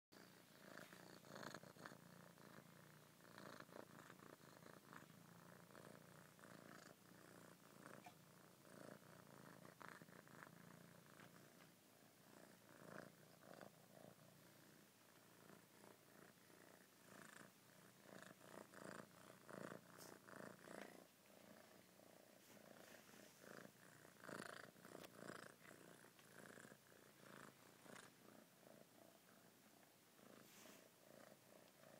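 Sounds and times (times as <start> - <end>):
cat purring: 0.2 - 31.9.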